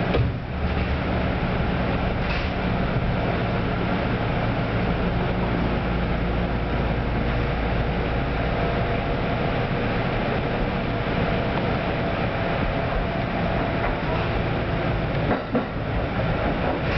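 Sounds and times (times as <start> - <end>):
train running gear rumble: 0.0 - 16.9.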